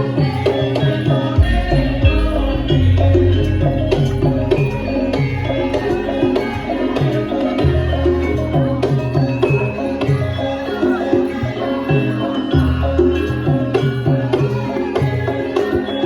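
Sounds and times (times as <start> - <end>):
hand drums beating: 0.0 - 16.0
interlocking metallophone notes: 0.0 - 16.0.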